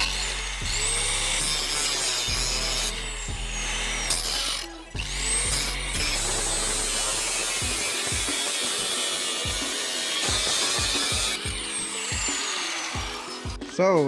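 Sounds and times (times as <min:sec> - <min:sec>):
power tool grinding and cutting: 0:00.0 - 0:14.0.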